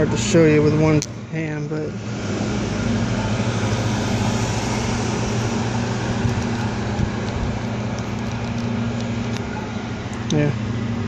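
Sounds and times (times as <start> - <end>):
rushing background noise: 0.0 - 11.0.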